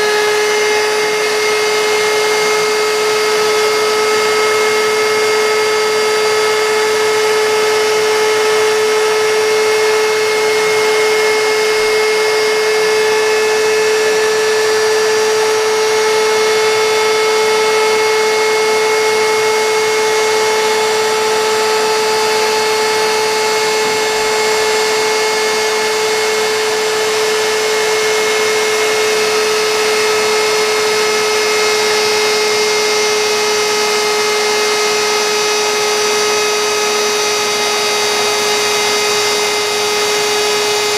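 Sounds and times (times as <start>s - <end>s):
bit cutting wood: 0.0s - 40.9s
router spindle high whine: 0.0s - 40.9s.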